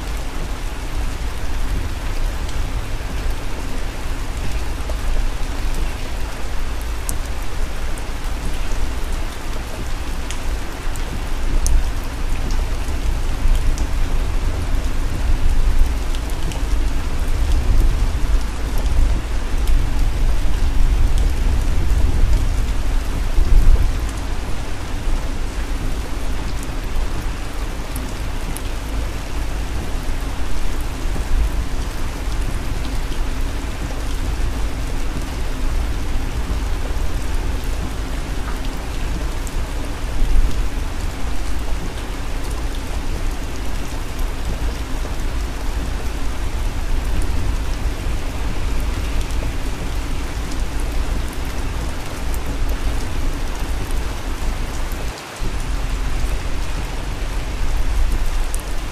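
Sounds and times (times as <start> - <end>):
low road rumble: 0.0 - 58.9
rain on windshield and roof: 0.0 - 58.9.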